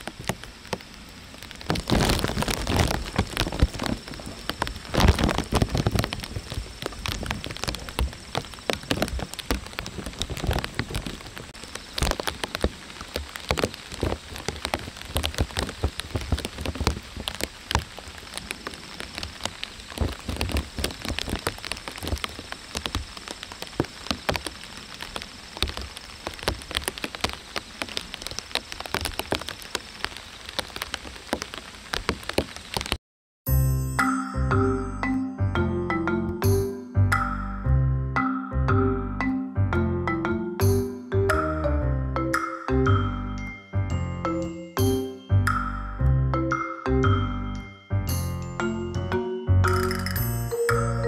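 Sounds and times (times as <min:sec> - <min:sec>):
rain falling: 0:00.0 - 0:38.0, 0:38.6 - 0:51.0.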